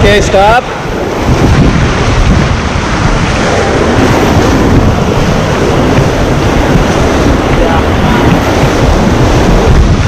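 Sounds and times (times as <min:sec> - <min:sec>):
fast-flowing river water rushing: 0:00.0 - 0:10.0
wind buffeting microphone: 0:00.0 - 0:10.0.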